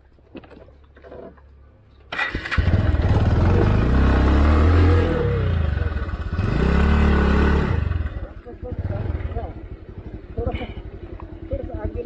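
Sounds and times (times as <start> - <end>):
motorcycle engine starting and revving: 2.1 - 12.0.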